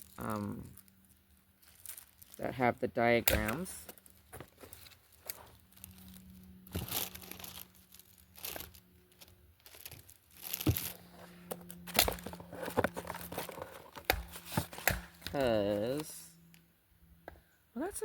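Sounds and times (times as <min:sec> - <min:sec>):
packaging crinkling and rustling: 0:00.0 - 0:16.1.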